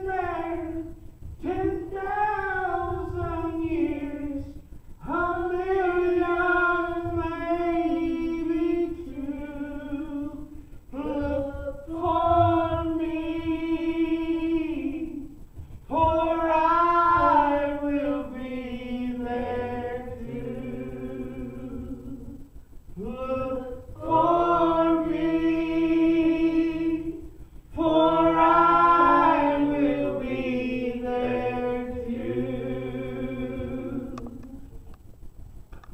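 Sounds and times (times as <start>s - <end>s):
man and woman singing duet: 0.0s - 34.7s.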